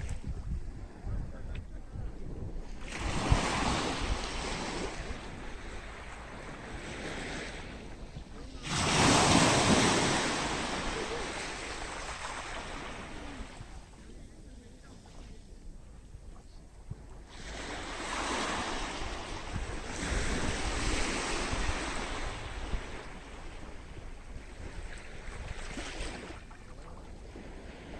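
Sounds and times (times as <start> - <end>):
waves breaking on a beach: 0.0 - 27.9
wind rumbling on microphone: 0.0 - 27.9.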